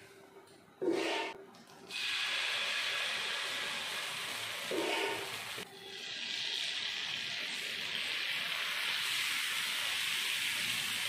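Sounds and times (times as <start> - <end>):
batter sizzling on griddle: 1.9 - 11.0.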